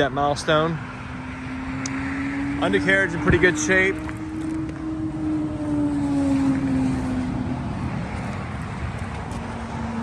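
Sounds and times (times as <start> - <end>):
distant engine droning: 0.0 - 10.0.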